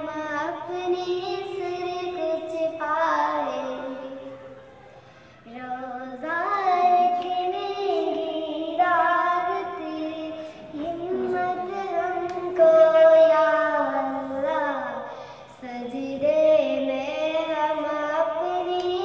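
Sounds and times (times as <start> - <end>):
girl singing: 0.0 - 4.6, 5.4 - 19.0.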